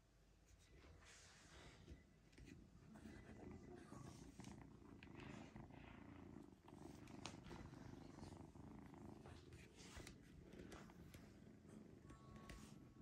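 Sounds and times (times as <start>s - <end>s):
kitten purring: 0.6s - 13.0s.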